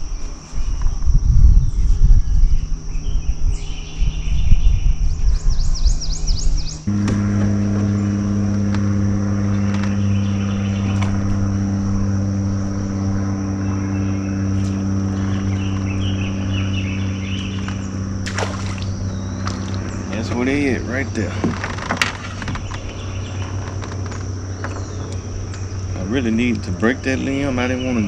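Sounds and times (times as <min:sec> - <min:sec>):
high insect buzz: 0:00.0 - 0:28.0
electric boat motor humming: 0:04.8 - 0:28.0.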